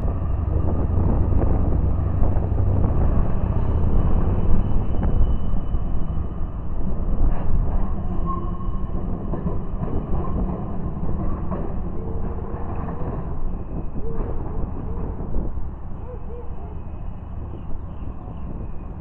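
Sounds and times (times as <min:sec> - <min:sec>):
tram rumbling along tracks: 0:00.0 - 0:19.0
steel wheels squealing on rail: 0:03.1 - 0:19.0.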